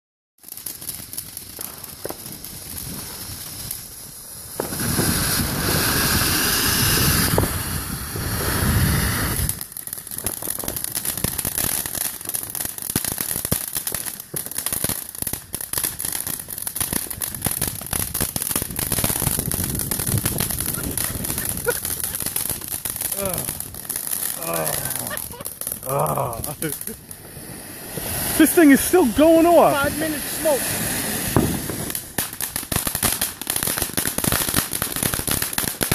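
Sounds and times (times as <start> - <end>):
fireworks crackling: 0.4 - 35.9
fireworks hissing: 0.4 - 35.9.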